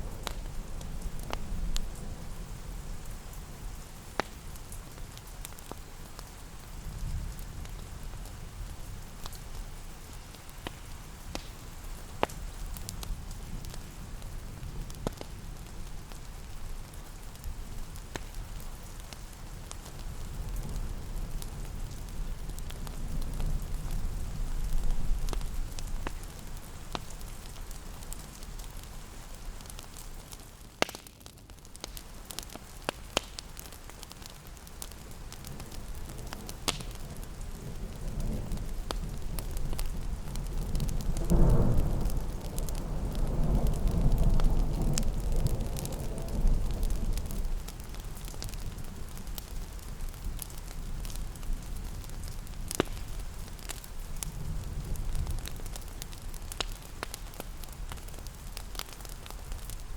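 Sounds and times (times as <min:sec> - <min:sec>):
rain hissing: 0:00.0 - 0:59.9
fireplace crackling: 0:07.6 - 0:41.3, 0:43.7 - 0:59.9.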